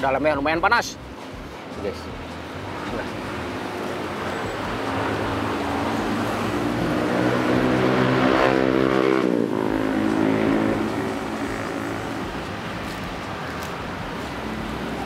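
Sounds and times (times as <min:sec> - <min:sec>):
vehicle engine passing by: 0:02.4 - 0:15.0.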